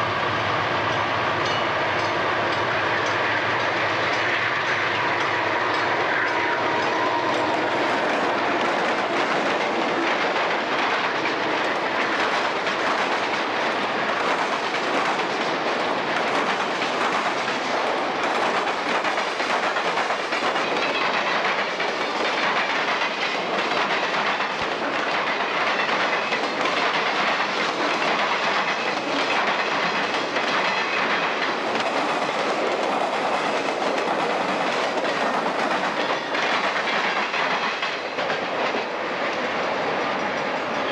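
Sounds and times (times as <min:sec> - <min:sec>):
train wheels clattering on rails: 0:00.8 - 0:40.9.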